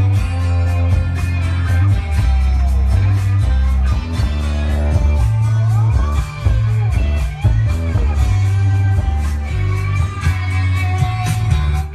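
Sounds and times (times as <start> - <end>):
guitar music with heavy bass: 0.0 - 11.9.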